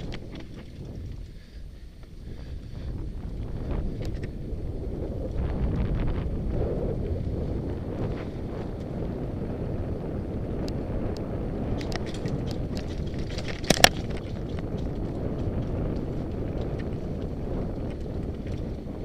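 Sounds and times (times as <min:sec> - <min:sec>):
bike clicks and rattles: 0:00.0 - 0:19.0
tyres rumbling on dirt trail: 0:00.0 - 0:19.0.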